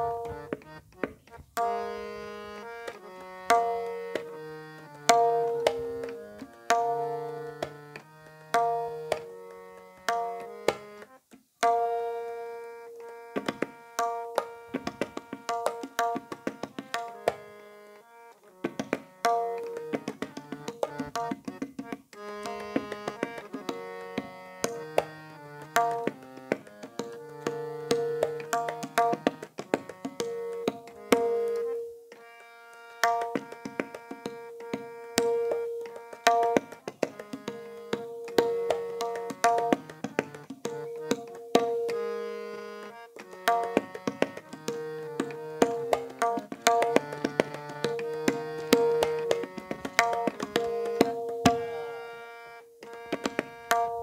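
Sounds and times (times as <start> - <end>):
tabla strokes: 0.0 - 1.9, 2.8 - 9.4, 10.0 - 11.0, 11.6 - 12.3, 13.0 - 17.4, 18.6 - 42.2, 43.1 - 52.0, 52.8 - 54.0
harmonium melody: 0.0 - 54.0.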